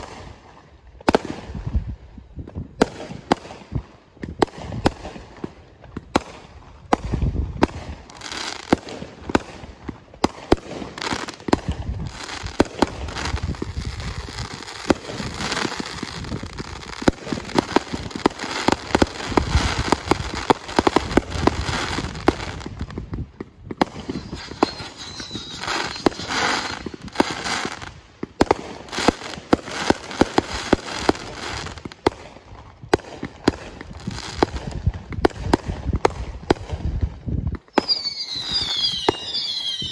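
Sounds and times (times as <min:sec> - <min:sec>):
fireworks bursting with bangs: 0:00.0 - 0:39.9
fireworks crackling: 0:00.0 - 0:39.9.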